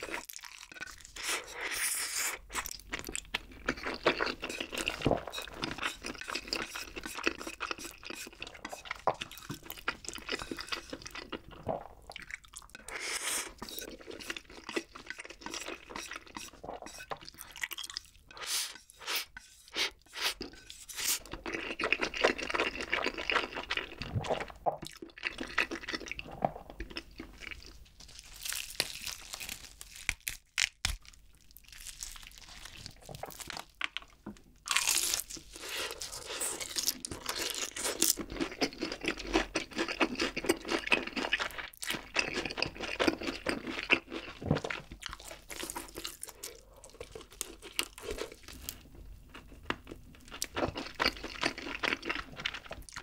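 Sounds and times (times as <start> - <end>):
wet chewing and slurping: 0.0 - 28.4, 32.2 - 53.0
crunchy chewing of fried food: 0.0 - 53.0.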